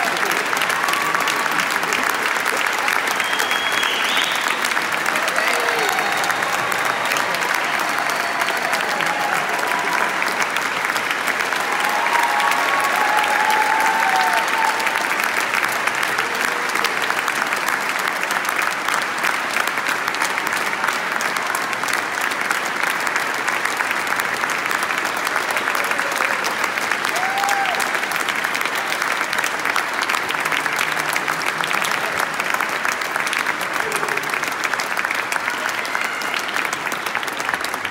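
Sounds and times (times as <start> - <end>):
large audience applauding: 0.0 - 37.9.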